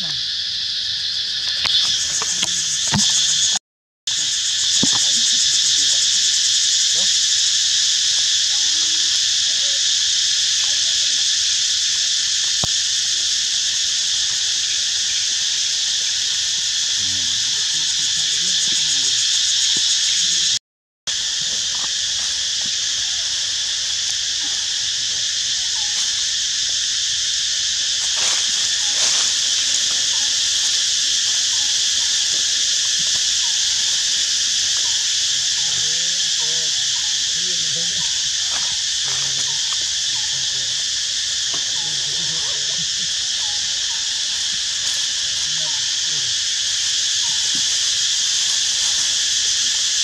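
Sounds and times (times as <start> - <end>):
insect chorus droning: 0.0 - 50.0.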